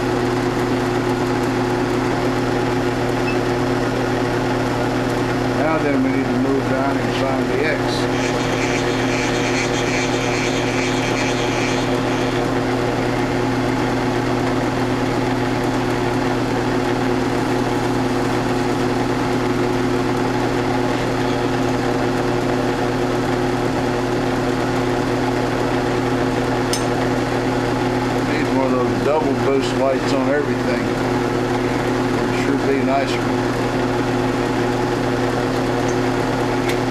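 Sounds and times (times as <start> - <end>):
mill-drill motor hum: 0.0 - 36.9.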